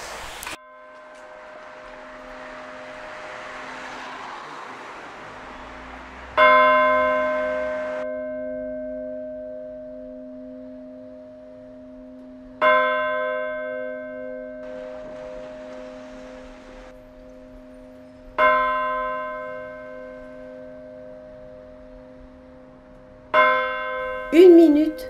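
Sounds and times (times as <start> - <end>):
church bell ringing: 0.6 - 3.8, 6.4 - 25.0.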